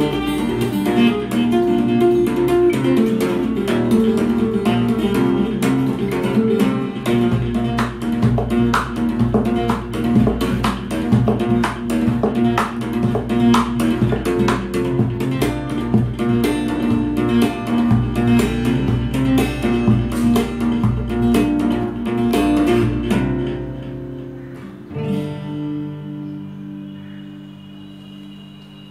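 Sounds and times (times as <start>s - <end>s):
percussive acoustic guitar: 0.0s - 28.9s.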